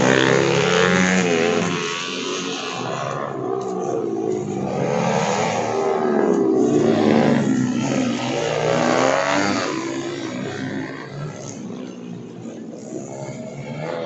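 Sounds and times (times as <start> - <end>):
motorcycles revving: 0.0 - 14.0.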